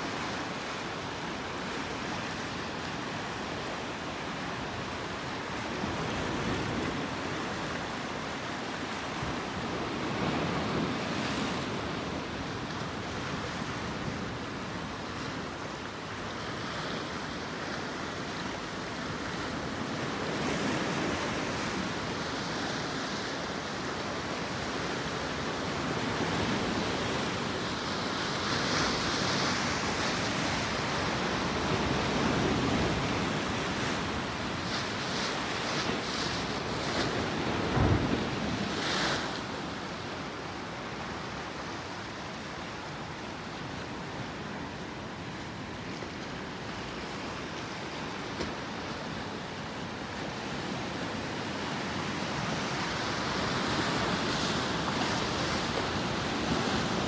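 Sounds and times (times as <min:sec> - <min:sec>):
ocean surf washing over rocks: 0:00.0 - 0:57.0.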